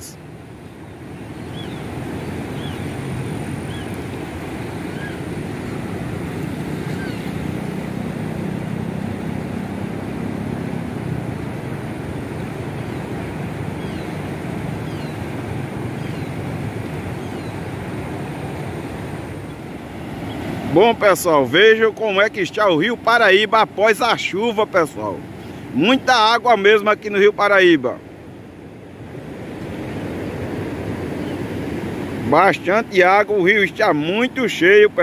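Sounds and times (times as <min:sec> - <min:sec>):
river rushing: 0:00.0 - 0:35.0.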